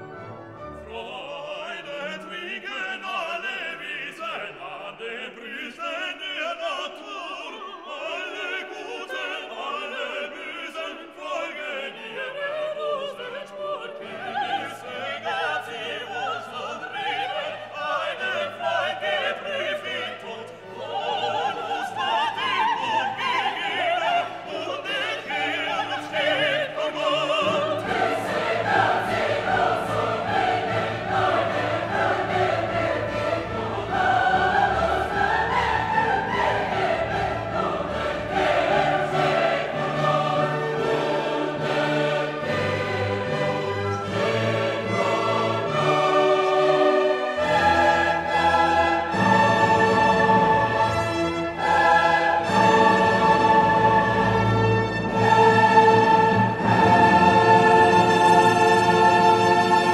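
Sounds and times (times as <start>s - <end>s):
classical orchestral music: 0.0s - 59.9s
operatic singing: 0.6s - 59.9s.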